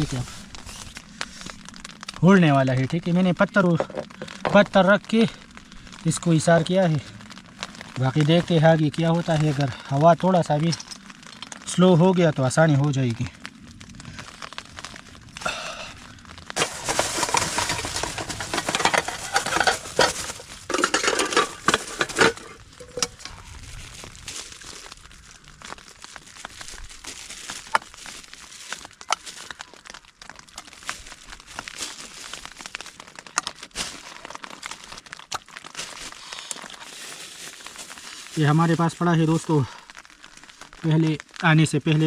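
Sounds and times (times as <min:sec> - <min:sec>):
crinkling rustle with clicks: 0:00.0 - 0:42.0.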